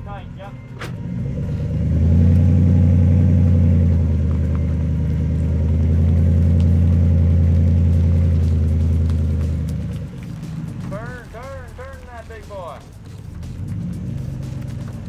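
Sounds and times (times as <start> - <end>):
pickup engine droning: 0.0 - 15.0.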